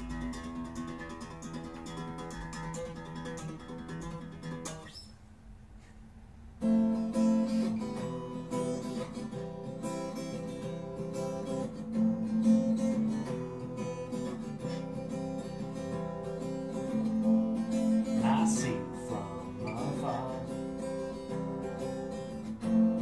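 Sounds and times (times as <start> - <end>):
guitar strumming chords: 0.0 - 5.1, 6.6 - 23.0.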